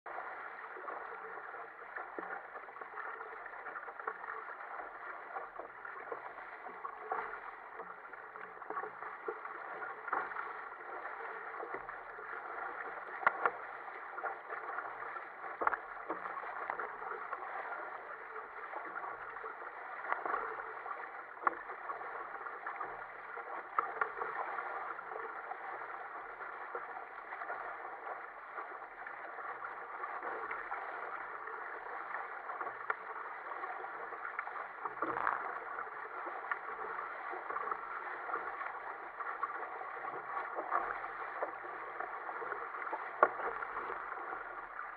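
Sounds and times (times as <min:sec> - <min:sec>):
water rushing along kayak hull: 0:00.1 - 0:44.9
waves slapping hull: 0:00.1 - 0:44.9.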